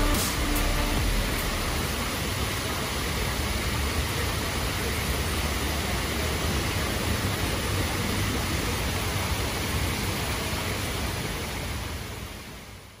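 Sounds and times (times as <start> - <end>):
water rushing and splashing: 0.0 - 12.8.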